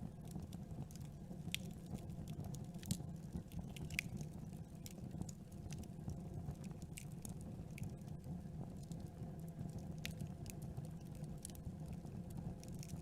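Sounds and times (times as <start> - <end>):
low rumble of fire: 0.0 - 13.0
wood crackling in campfire: 0.0 - 13.0.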